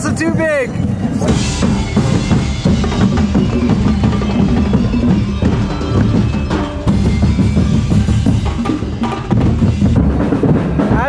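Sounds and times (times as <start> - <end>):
drum band drumming: 0.0 - 11.0.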